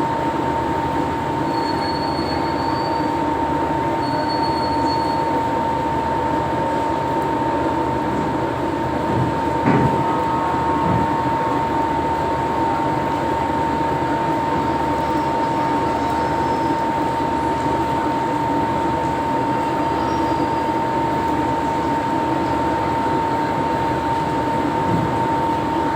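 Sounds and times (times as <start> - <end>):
machinery drone with high hum: 0.0 - 25.9.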